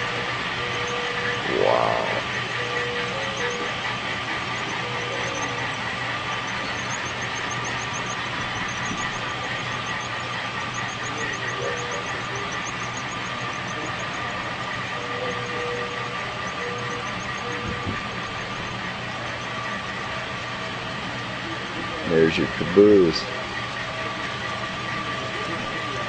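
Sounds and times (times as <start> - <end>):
rapid high ticking: 0.0 - 21.4
model train whirring on rails: 0.0 - 26.0.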